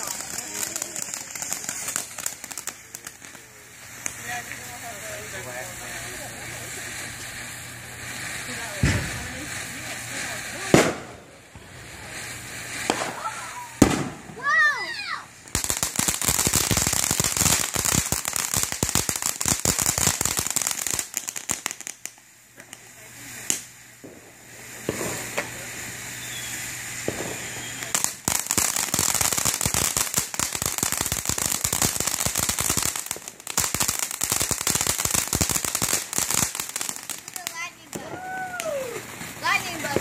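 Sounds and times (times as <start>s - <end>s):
fireworks crackling and popping: 0.0s - 40.0s.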